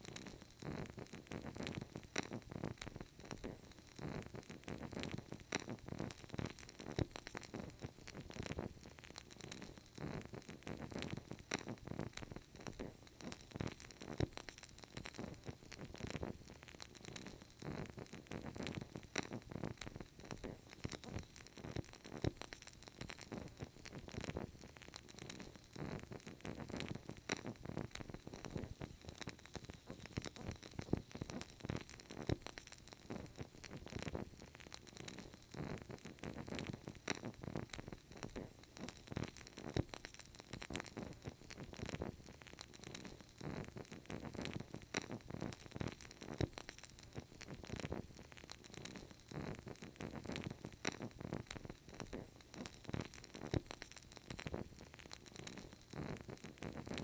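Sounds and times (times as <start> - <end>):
candle crackling: 0.0 - 57.0
faint hiss: 0.0 - 57.0.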